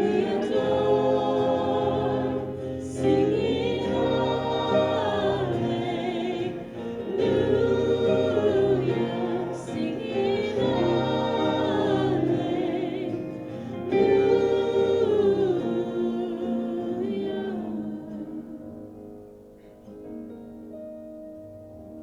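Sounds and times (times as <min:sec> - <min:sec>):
group singing a worship song: 0:00.0 - 0:19.1.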